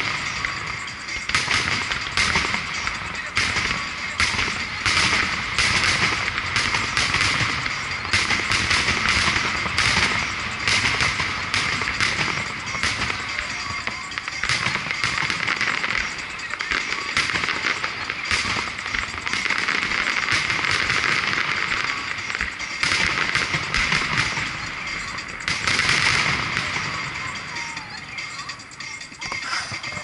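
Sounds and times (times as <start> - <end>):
fireworks crackle: 0.0 - 30.0
fireworks shells bursting: 0.0 - 30.0.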